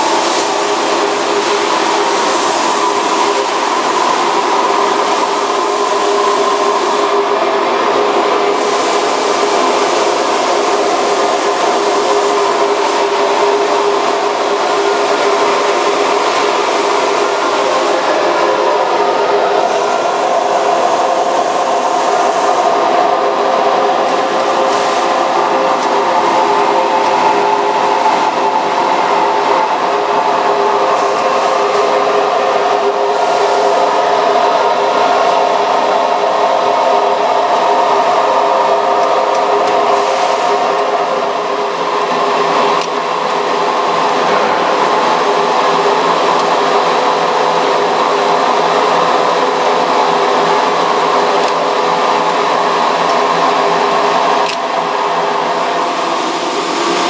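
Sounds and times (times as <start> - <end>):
loud mechanical whir: 0.0 - 57.0.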